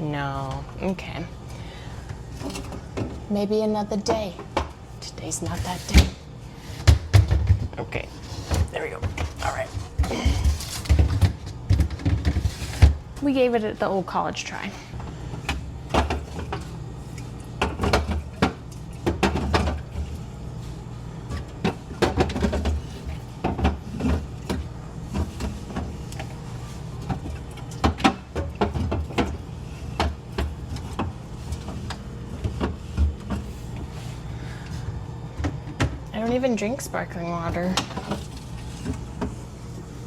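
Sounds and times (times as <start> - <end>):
containers clattering in a refrigerator: 0.0 - 40.0
refrigerator low hum: 0.0 - 40.0.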